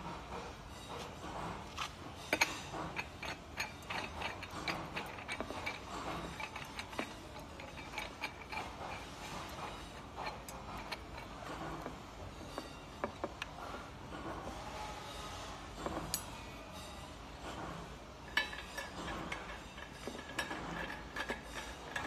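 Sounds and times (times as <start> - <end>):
metal pole sections clicking and scraping: 0.9 - 14.7, 15.3 - 22.0.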